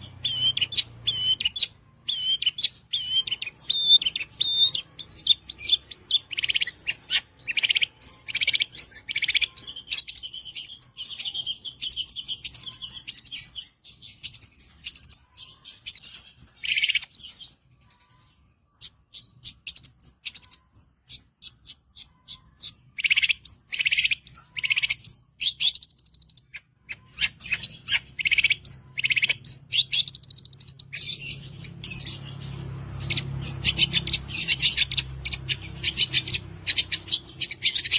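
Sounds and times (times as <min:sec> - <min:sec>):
bird singing sharp chirps: 0:00.0 - 0:37.9.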